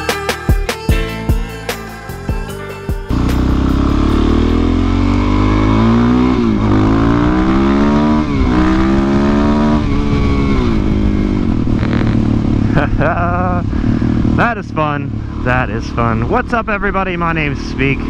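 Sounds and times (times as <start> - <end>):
motorcycle engine accelerating: 0.9 - 18.0.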